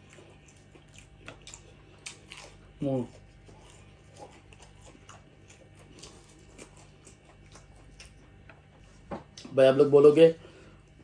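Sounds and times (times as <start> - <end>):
chewing crispy fried chicken: 0.0 - 9.5.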